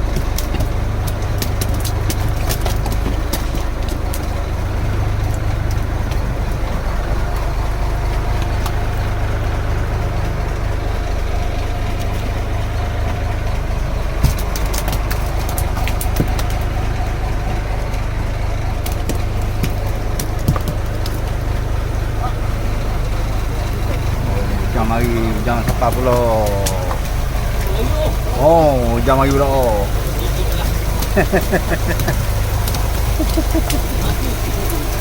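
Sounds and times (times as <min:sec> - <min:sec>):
boat engine idling: 0:00.0 - 0:35.0.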